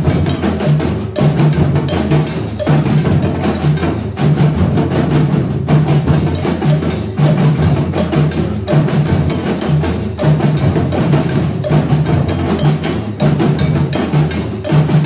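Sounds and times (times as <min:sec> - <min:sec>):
percussion ensemble playing: 0:00.0 - 0:15.0.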